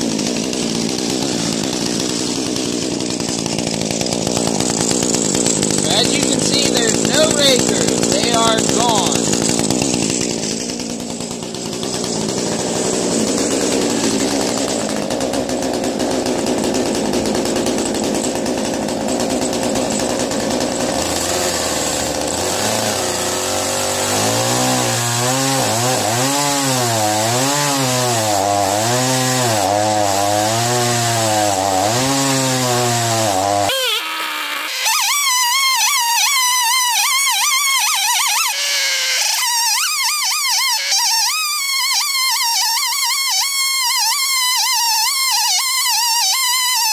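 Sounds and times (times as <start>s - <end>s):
chainsaw ripping a log: 0.0s - 46.9s.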